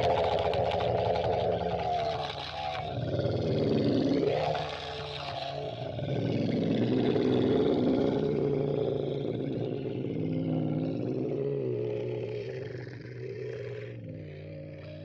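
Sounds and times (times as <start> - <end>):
low monster groan: 0.0 - 15.0.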